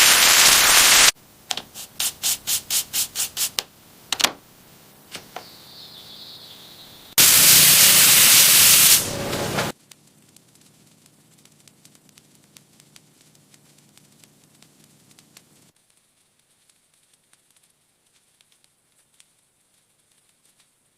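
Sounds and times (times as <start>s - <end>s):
faint hiss: 0.0s - 20.9s.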